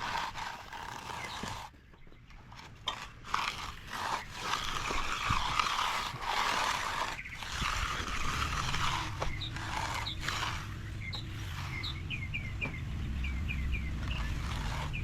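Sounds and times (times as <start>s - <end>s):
finishing tool scraping wet concrete: 0.0s - 12.5s, 13.8s - 15.0s.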